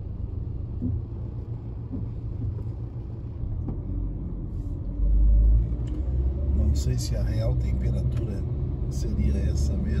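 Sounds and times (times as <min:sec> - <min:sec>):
car engine rumble inside cabin: 0:00.0 - 0:10.0.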